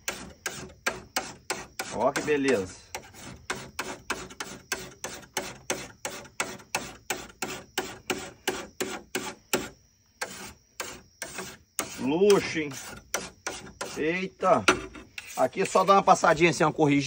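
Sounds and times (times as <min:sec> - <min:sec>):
file rasping on steel blade: 0:00.0 - 0:16.7.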